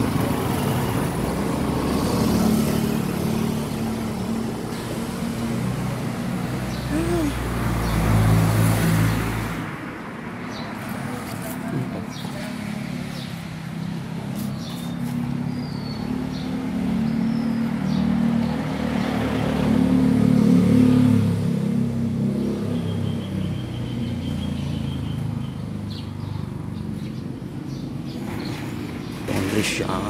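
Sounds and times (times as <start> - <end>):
vehicle engine passing by: 0.0 - 9.9, 10.8 - 30.0.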